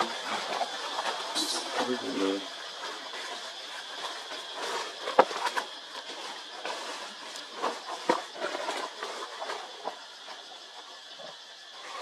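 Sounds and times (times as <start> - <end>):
rustles: 0.0 - 12.0.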